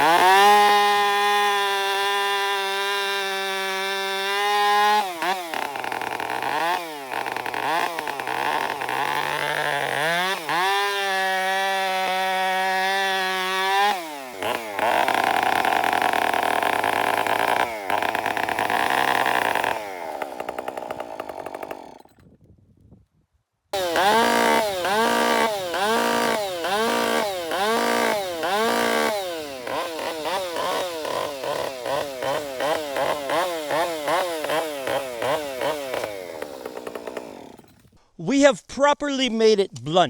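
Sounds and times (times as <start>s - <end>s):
chainsaw cutting wood: 0.0s - 22.3s, 23.8s - 38.2s.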